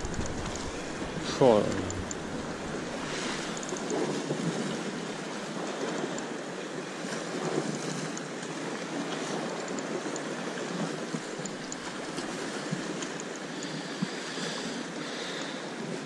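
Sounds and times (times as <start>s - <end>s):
sea waves washing: 0.0s - 16.0s
wind: 0.0s - 16.0s.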